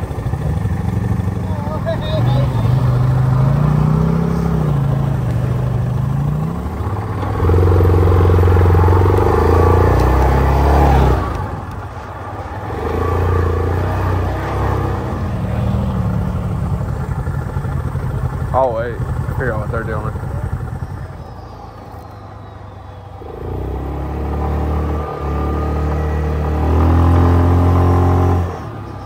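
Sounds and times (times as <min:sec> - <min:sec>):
off-road engines revving: 0:00.0 - 0:29.0.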